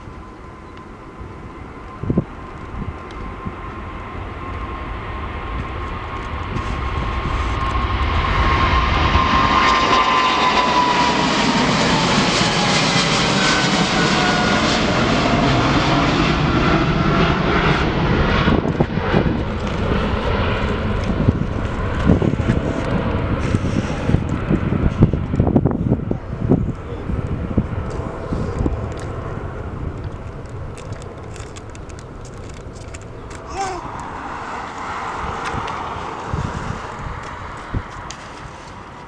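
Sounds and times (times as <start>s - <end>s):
jet airliner engine roar: 0.0s - 39.0s.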